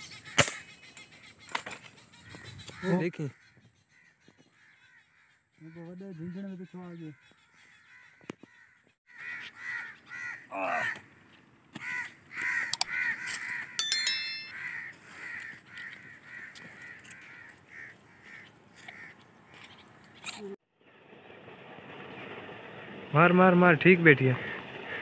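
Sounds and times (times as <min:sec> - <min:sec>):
birds calling: 0:00.0 - 0:20.5.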